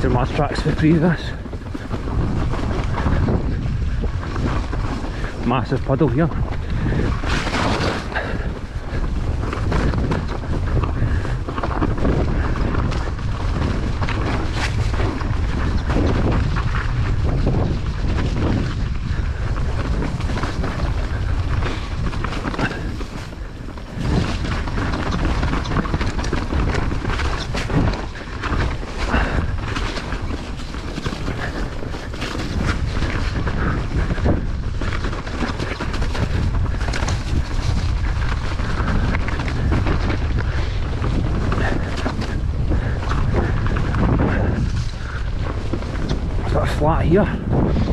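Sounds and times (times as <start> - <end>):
bike knocks and rattles: 0.0 - 46.5
mountain bike rumbling on trail: 0.0 - 47.9
wind buffeting microphone: 0.0 - 47.9.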